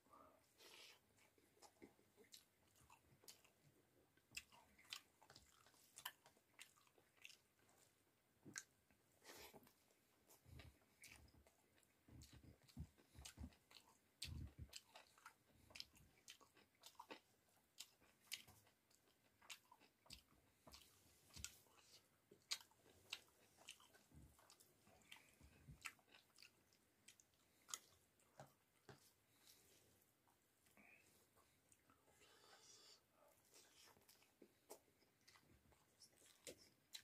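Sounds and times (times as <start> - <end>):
soft chewing: 0.1 - 37.0.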